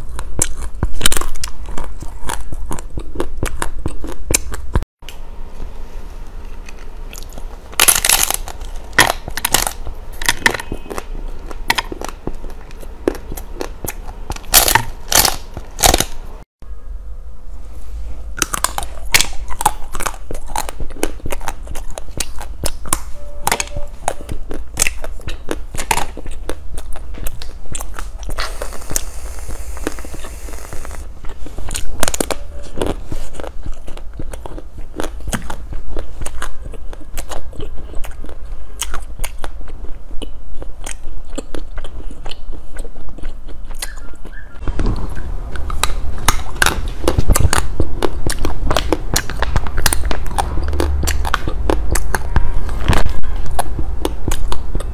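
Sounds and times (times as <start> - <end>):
crunching brittle candy: 0.0 - 4.8, 6.4 - 16.4, 18.3 - 54.9
chewing: 0.0 - 5.2, 6.3 - 16.1, 18.4 - 54.9.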